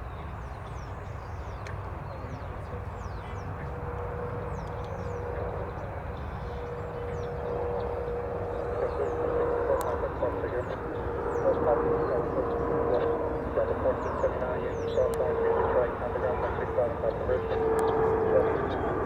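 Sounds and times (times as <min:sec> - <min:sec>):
jet airliner engines running: 0:00.0 - 0:19.0.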